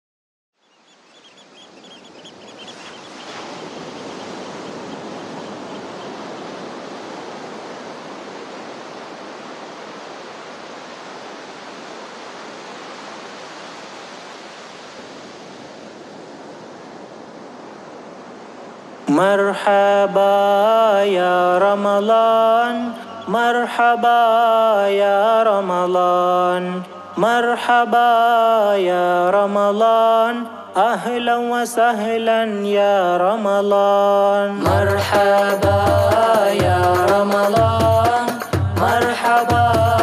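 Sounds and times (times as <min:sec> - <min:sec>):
ocean waves washing on beach: 0:00.6 - 0:40.0.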